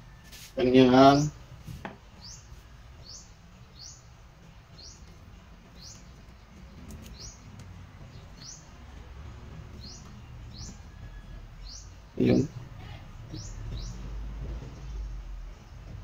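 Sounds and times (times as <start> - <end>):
bird chirping: 2.2 - 16.0.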